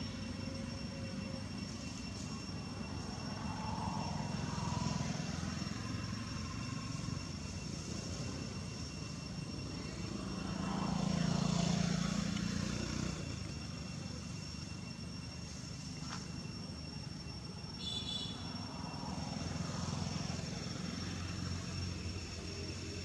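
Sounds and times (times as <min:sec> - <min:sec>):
motor engine droning: 0:00.0 - 0:23.0.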